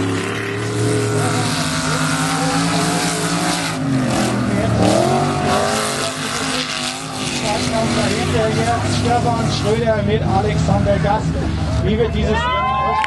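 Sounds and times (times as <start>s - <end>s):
tyres sliding on dirt: 0.0s - 11.3s
race car engines revving: 0.0s - 13.0s.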